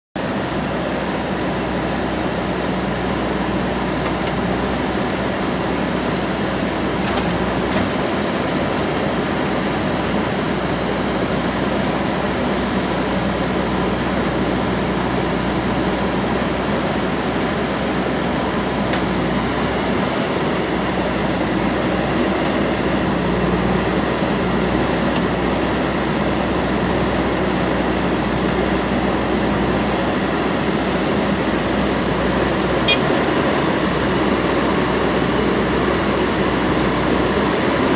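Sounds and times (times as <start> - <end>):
diesel engine under load: 0.2 - 37.9
backhoe digging: 1.4 - 37.9.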